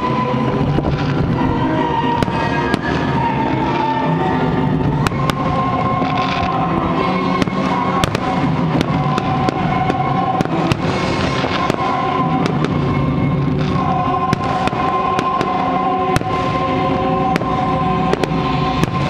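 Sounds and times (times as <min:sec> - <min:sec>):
fireworks bangs and crackles: 0:00.0 - 0:19.0
music with long held notes: 0:00.0 - 0:19.0.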